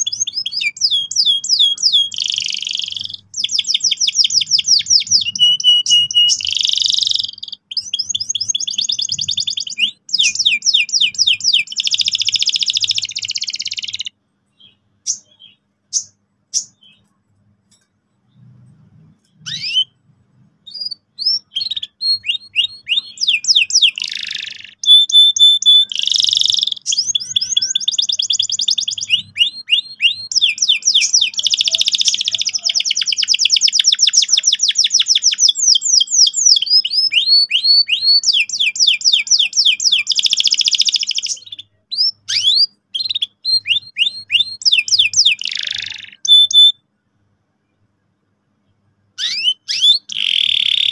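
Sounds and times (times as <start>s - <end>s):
canary singing rolling trills: 0.0s - 46.8s, 48.6s - 50.9s
canary chirps: 0.0s - 46.9s, 47.7s - 50.9s.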